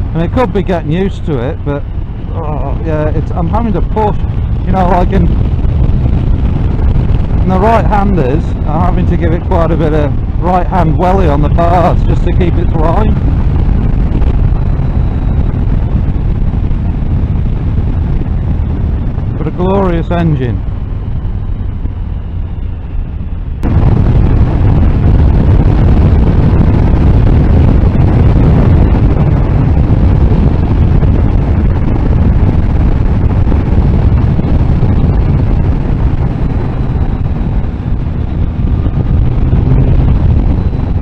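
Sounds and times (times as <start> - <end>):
motorcycle engine running: 0.0 - 41.0
road noise: 0.0 - 41.0
wind buffeting microphone: 0.0 - 41.0.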